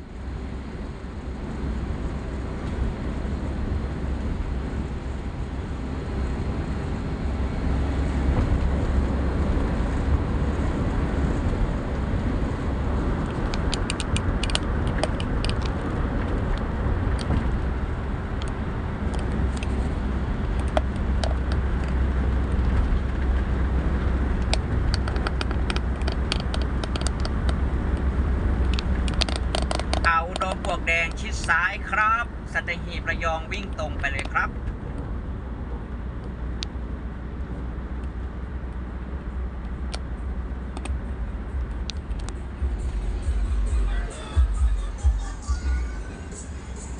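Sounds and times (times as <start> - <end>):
road and engine rumble: 0.0 - 46.9.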